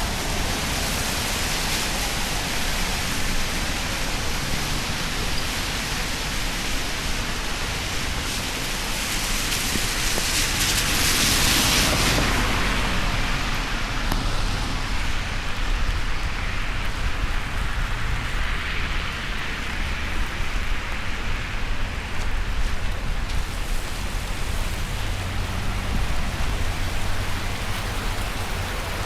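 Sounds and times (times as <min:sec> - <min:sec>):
rain falling: 0:00.0 - 0:29.0.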